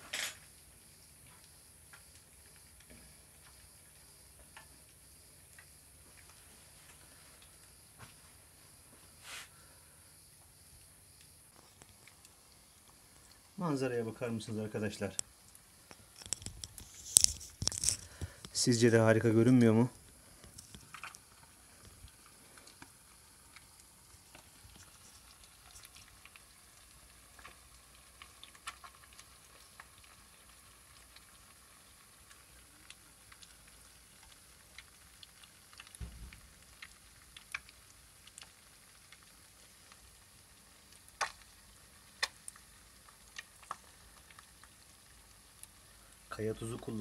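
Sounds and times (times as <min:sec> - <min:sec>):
eggs sizzling in pan: 0:00.0 - 0:47.0
pops and crackles: 0:01.2 - 0:08.2, 0:10.4 - 0:13.6, 0:14.8 - 0:18.8, 0:19.4 - 0:47.0.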